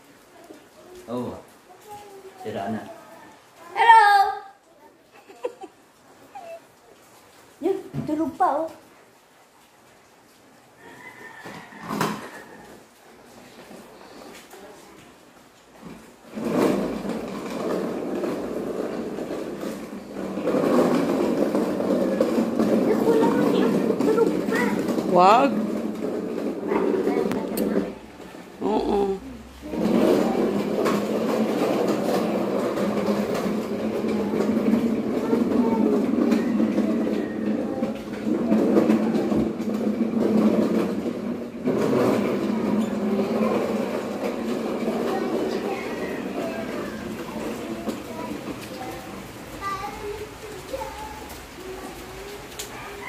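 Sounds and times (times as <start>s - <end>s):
heavy rain pouring: 0.0s - 53.0s
plastic wheels rolling on tiles: 0.0s - 53.0s.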